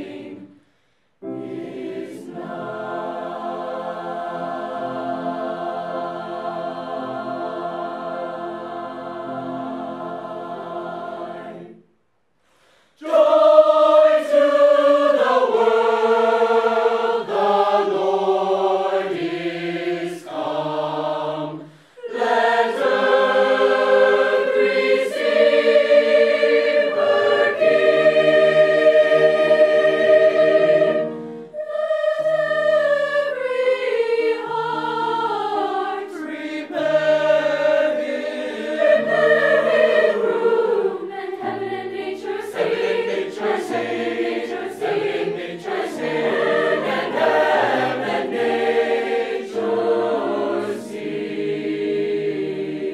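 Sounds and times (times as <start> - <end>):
choir singing in parts: 0.0 - 0.6, 1.2 - 11.9, 13.0 - 52.9.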